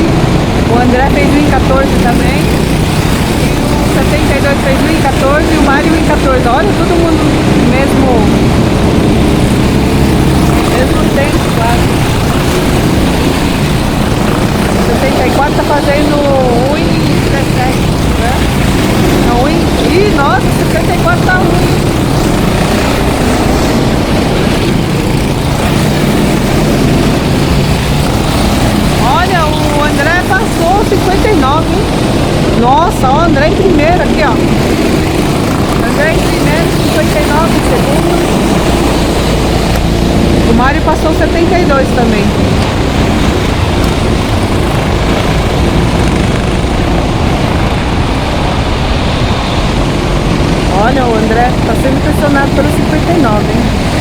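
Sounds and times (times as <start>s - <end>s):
go-kart engines droning: 0.0s - 54.0s.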